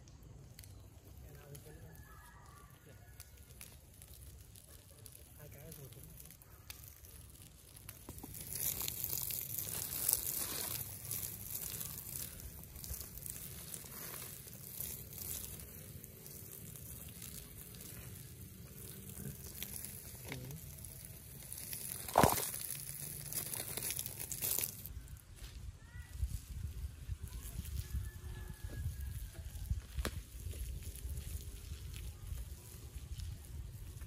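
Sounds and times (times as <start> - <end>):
garden hose spraying water: 0.0 - 34.0.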